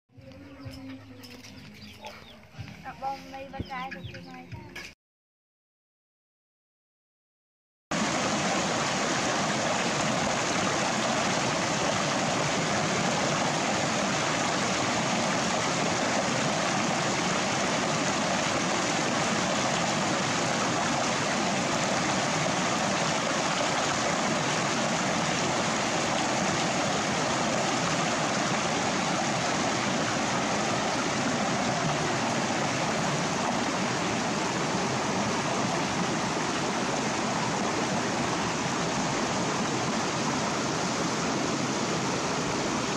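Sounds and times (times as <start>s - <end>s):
running water rushing: 7.9s - 42.9s.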